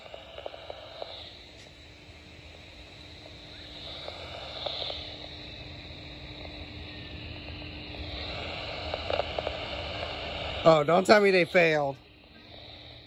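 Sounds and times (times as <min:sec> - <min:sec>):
faint steady hum: 0:00.0 - 0:13.0
light crackles: 0:00.0 - 0:13.0
radio static hiss: 0:00.0 - 0:13.0.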